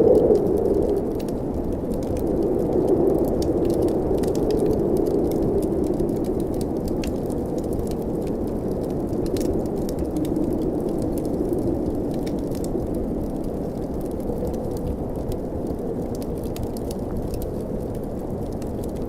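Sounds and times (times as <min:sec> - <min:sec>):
blizzard wind rushing: 0:00.0 - 0:19.0
wood fire crackling: 0:00.0 - 0:19.0.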